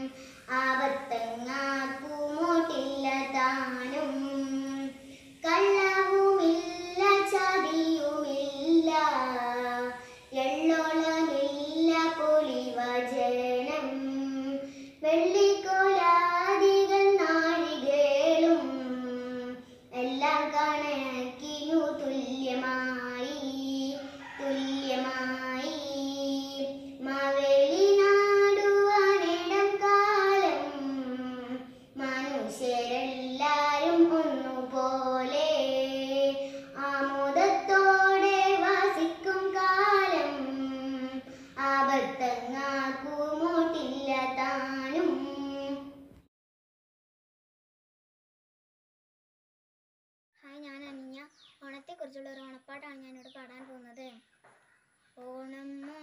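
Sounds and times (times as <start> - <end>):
girl singing: 0.0 - 46.2, 50.4 - 54.2, 55.2 - 56.0.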